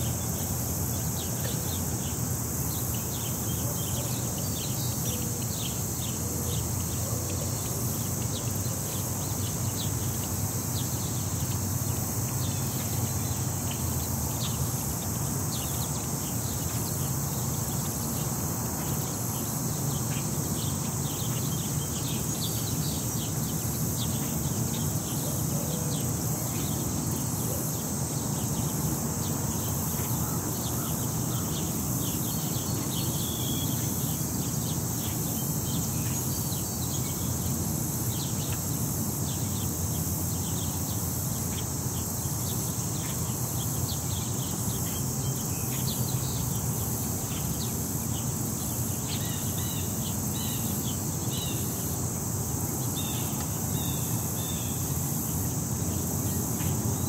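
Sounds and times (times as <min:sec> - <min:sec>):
high insect chorus: 0:00.0 - 0:57.0.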